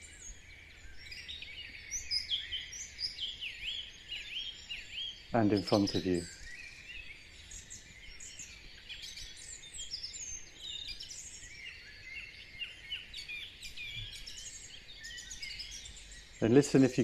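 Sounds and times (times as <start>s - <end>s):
many birds singing: 0.0s - 17.0s.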